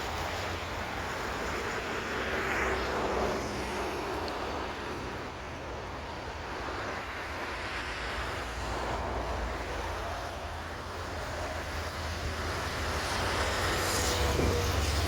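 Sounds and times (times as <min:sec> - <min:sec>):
jet airliner engines rumbling: 0:00.0 - 0:15.0.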